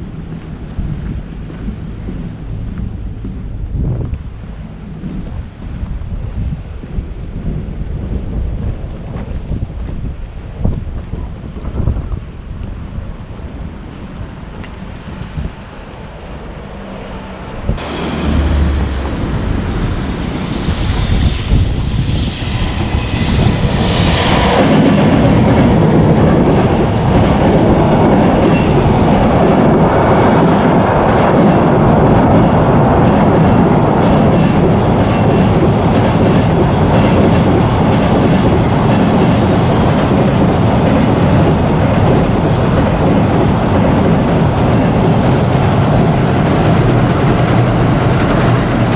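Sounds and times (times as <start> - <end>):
train crossing bridge overhead: 0.0 - 48.9.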